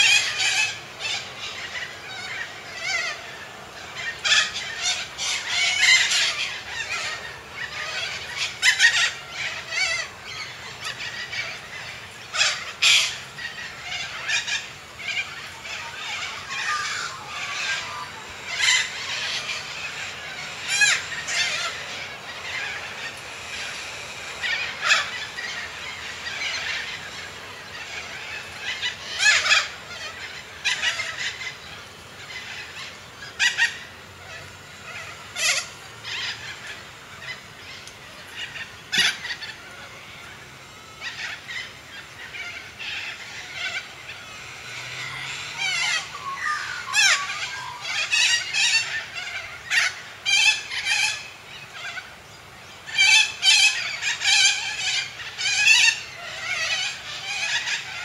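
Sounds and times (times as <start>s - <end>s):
cockatoo screeching squawks: 0.0s - 52.1s, 52.8s - 58.0s.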